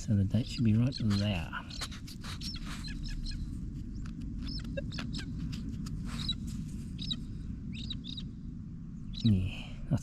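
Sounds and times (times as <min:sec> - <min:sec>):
birds chirping: 0:00.0 - 0:10.0
steady low rumble: 0:00.0 - 0:10.0.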